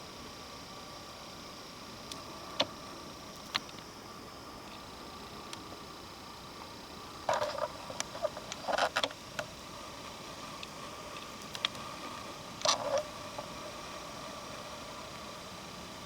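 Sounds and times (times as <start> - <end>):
steady faint hiss: 0.0 - 16.0.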